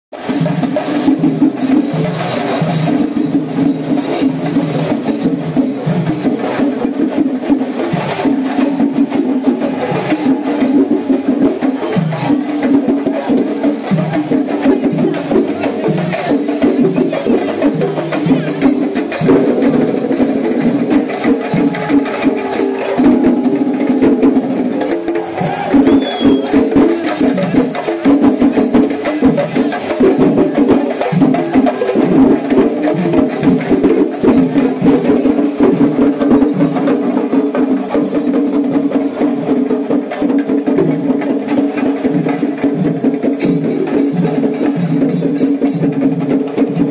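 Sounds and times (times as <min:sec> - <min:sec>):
percussion ensemble drumming: 0:00.1 - 0:46.9.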